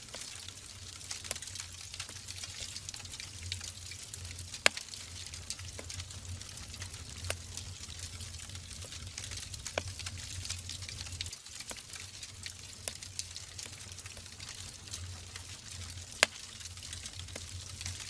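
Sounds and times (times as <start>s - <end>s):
fire crackles and pops: 0.0s - 18.0s
logs burning in fireplace: 0.0s - 18.0s.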